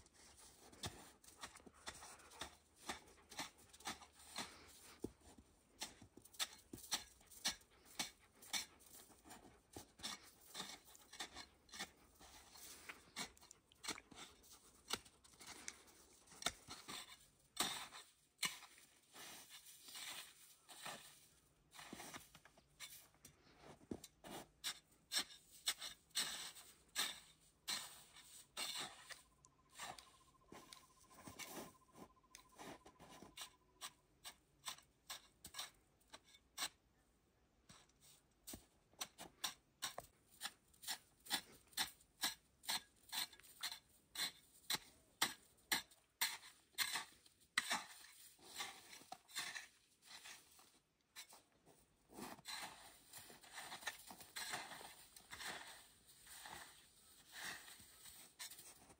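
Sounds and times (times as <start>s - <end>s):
shovel scraping snow: 0.0s - 36.8s, 37.7s - 58.9s.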